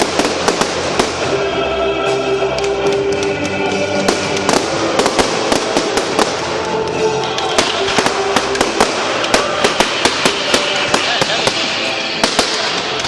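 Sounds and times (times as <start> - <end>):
fireworks cracking and popping: 0.0 - 1.5, 2.5 - 13.0
music playing: 0.0 - 13.0.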